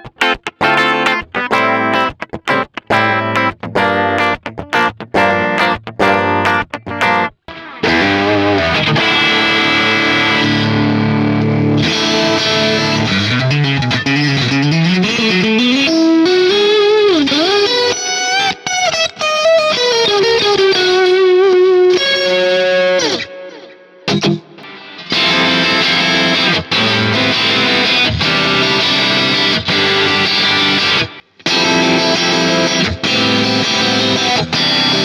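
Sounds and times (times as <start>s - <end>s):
overdriven electric guitar: 0.0s - 35.0s.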